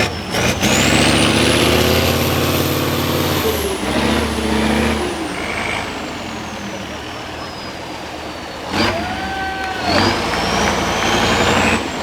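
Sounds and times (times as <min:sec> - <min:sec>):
diesel truck engine revving: 0:00.0 - 0:12.0.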